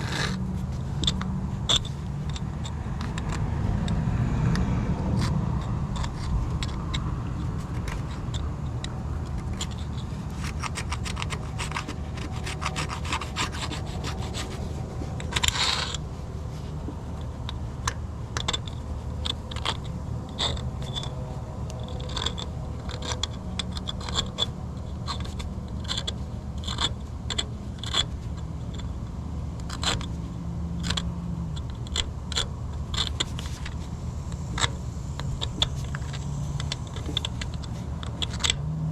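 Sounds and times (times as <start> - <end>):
hand scraping on metal: 0.0 - 29.0, 29.6 - 38.7
steady low hum: 0.0 - 38.9.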